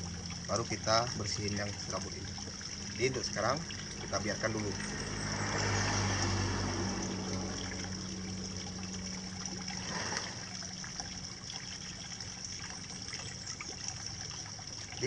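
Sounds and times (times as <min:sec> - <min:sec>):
low hum: 0:00.0 - 0:15.0
trickle of running water: 0:00.0 - 0:15.0.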